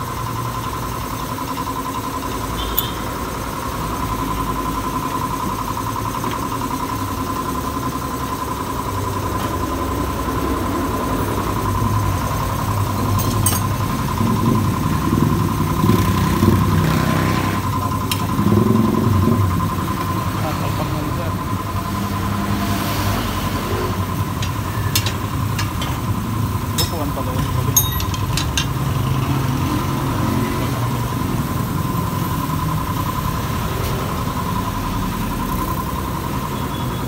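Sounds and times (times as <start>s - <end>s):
constant whine: 0.0s - 37.0s
motorcycle engine idling: 0.0s - 37.0s.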